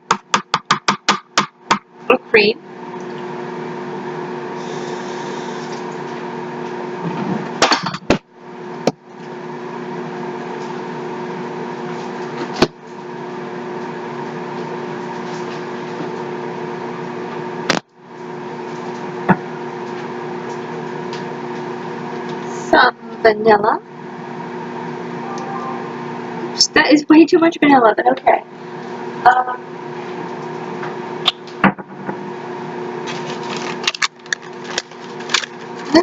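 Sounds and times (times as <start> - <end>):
microwave oven humming: 0.0 - 36.0.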